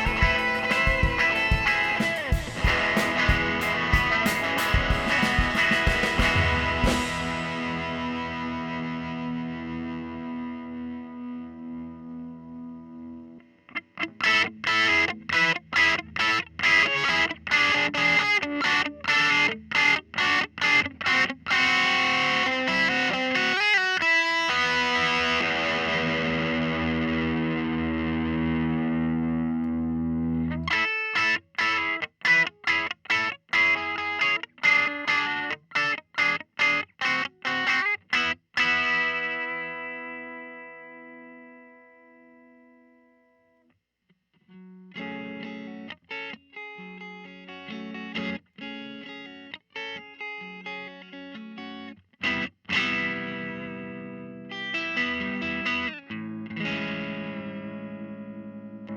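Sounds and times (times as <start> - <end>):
electric guitar chords: 0.0 - 43.4, 44.5 - 58.9.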